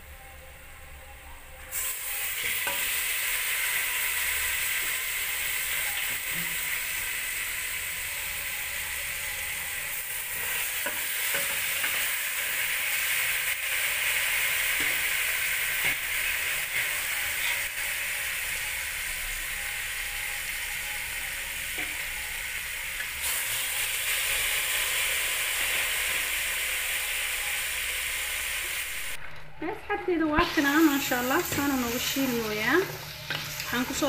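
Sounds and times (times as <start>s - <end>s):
meat sizzling in hot oil: 1.7s - 29.2s, 30.4s - 34.0s.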